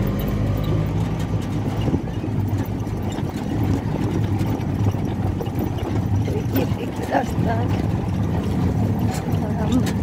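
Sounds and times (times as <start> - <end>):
auto-rickshaw engine running: 0.0 - 10.0.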